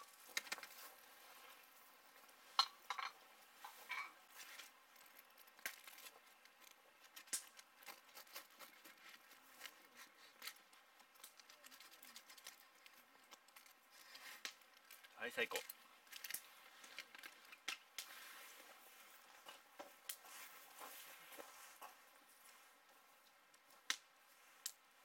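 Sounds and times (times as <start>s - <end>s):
light clicks and scrapes: 0.1s - 24.8s.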